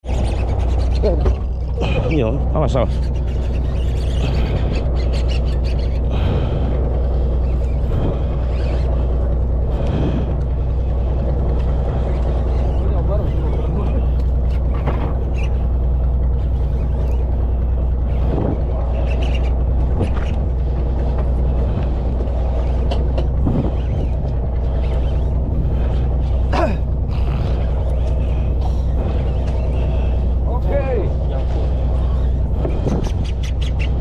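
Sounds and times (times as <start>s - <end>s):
engine droning steadily: 0.0s - 34.0s.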